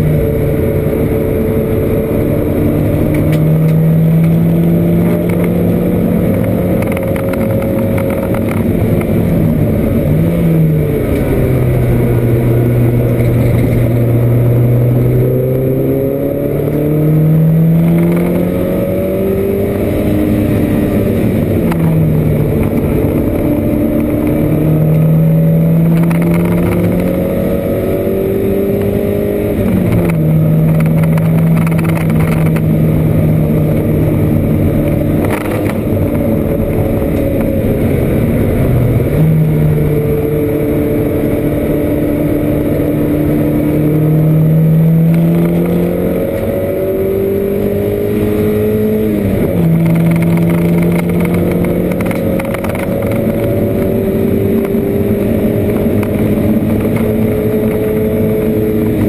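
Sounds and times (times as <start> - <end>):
car engine revving: 0.0 - 59.0
road and wind noise: 0.0 - 59.0.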